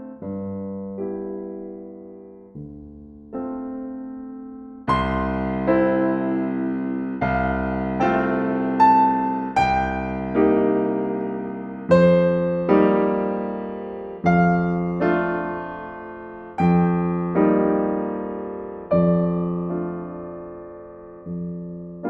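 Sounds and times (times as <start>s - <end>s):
slow gentle piano piece: 0.0s - 22.0s.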